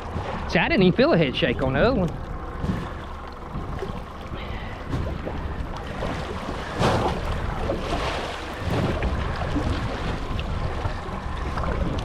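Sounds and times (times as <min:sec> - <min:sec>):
water sloshing against boat hull: 0:00.0 - 0:12.0
wind buffeting microphone: 0:00.0 - 0:12.0.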